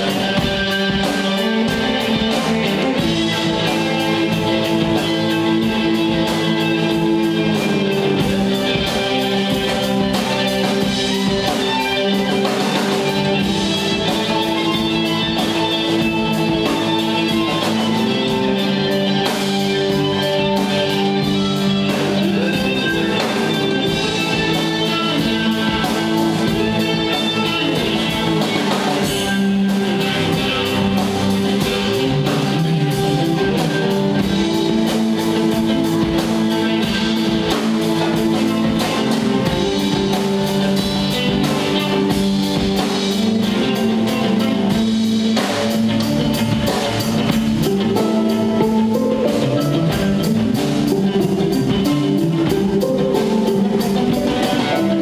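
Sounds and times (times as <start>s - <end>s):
live rock band: 0.0s - 55.0s.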